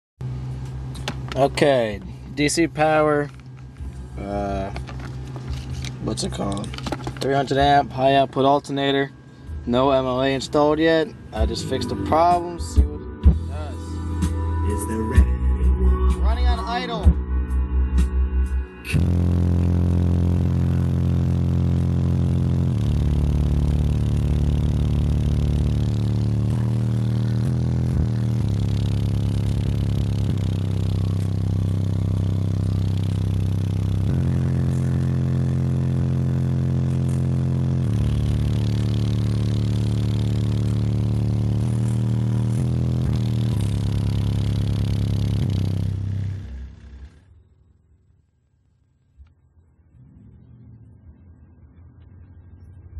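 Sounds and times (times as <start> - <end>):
bass-heavy music from subwoofers: 0.2 - 47.3.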